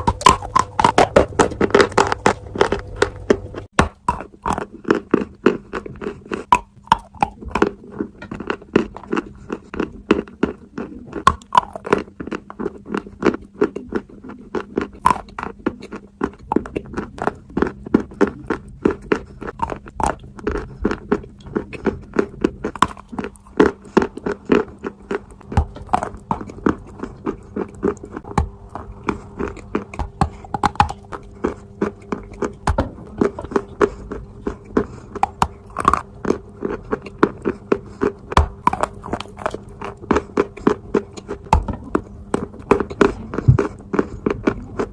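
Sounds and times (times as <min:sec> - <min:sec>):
chalk being crunched and chewed: 0:00.0 - 0:44.9
faint steady hum: 0:00.0 - 0:44.9.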